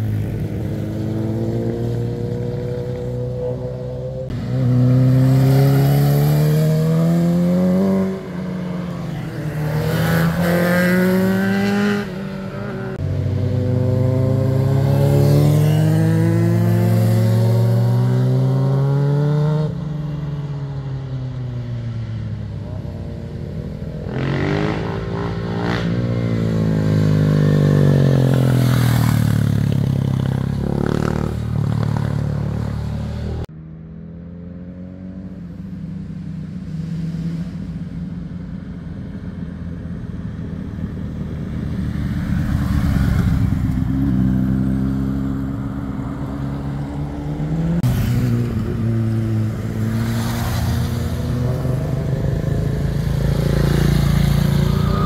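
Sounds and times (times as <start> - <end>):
motorcycles passing: 0.0 - 55.0.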